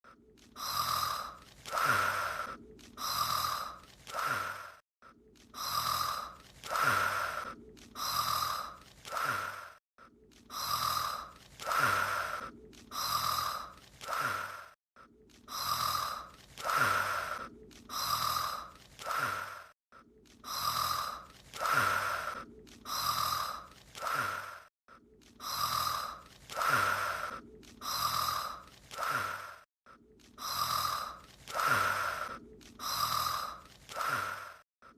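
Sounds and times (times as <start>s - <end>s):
breathy snoring sound effect: 0.4s - 4.8s, 5.4s - 34.9s.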